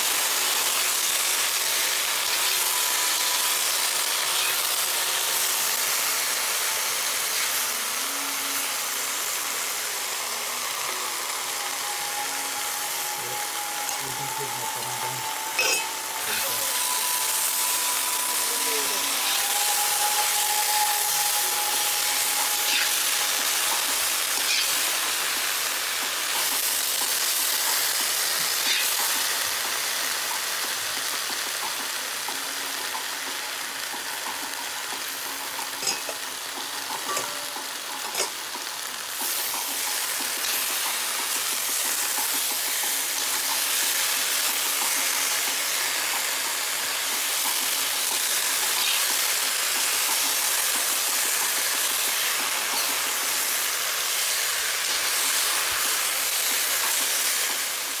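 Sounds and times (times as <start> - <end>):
potatoes sizzling in oil: 0.0 - 58.0.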